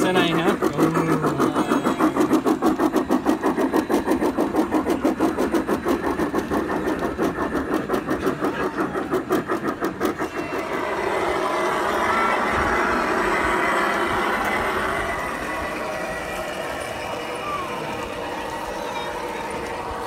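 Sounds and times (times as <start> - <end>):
model steam locomotive chuffing: 0.0 - 20.0
steady background noise: 0.0 - 20.0.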